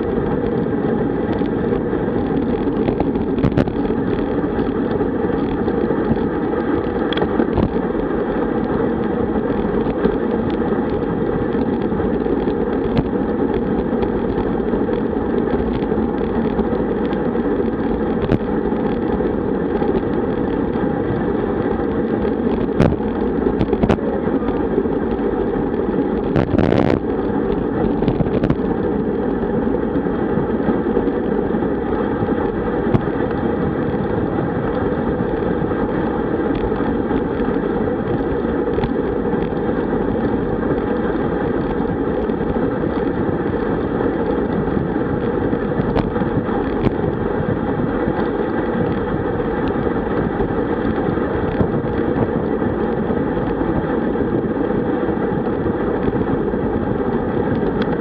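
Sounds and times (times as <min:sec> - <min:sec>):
tyre noise on asphalt: 0:00.0 - 0:58.0
wind rush on microphone: 0:00.0 - 0:58.0.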